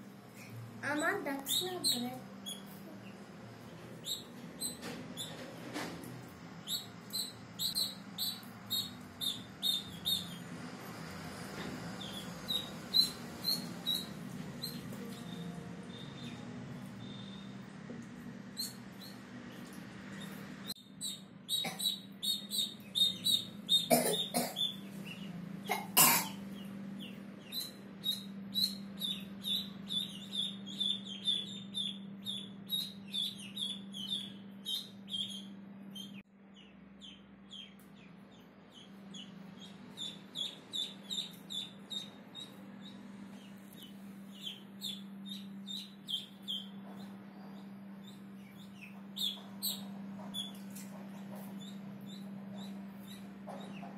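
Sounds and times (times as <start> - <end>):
steady low hum: 0.0 - 53.9
ducklings peeping: 0.8 - 5.7, 6.6 - 53.9.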